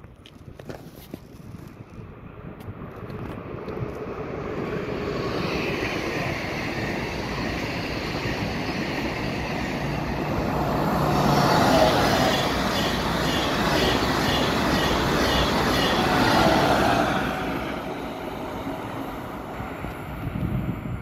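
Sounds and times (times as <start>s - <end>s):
high-speed train passing: 1.6s - 21.0s.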